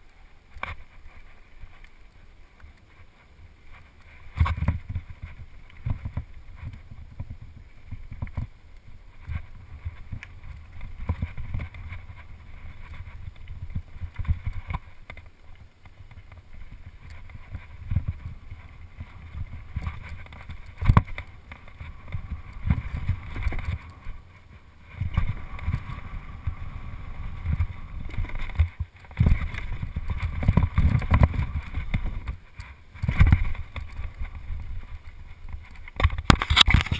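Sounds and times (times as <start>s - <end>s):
wind buffeting microphone: 4.3s - 15.0s, 16.0s - 36.9s.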